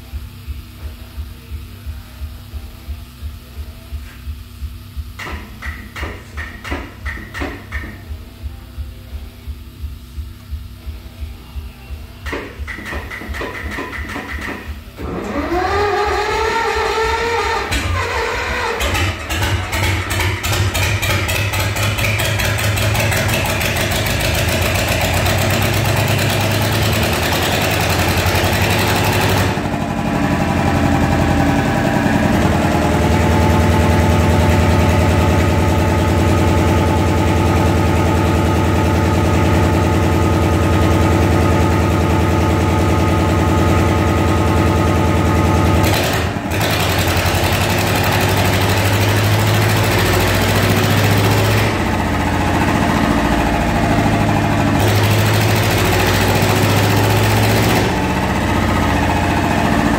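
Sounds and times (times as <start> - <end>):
diesel generator engine running: 10.2 - 59.9.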